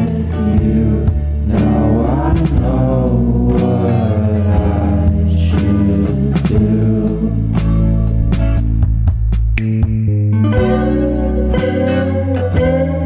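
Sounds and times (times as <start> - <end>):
song with vocals bass and beat: 0.0 - 13.0.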